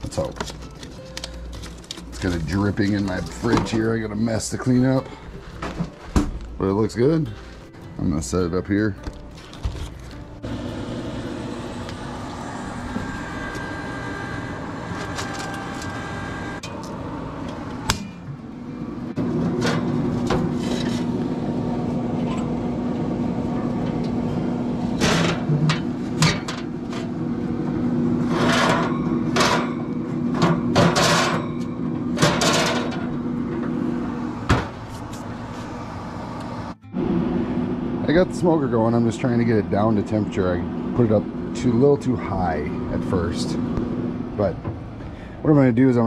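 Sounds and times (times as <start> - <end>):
smoker fan humming: 0.0 - 46.0.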